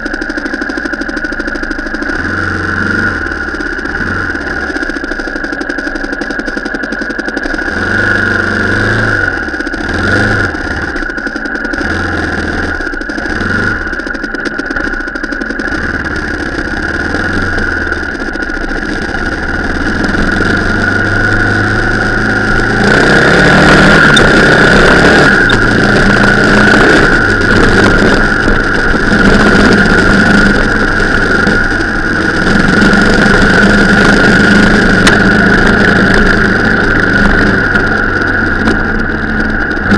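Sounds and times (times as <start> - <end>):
steady high whine: 0.0 - 39.9
vehicle engine revving: 0.0 - 39.9.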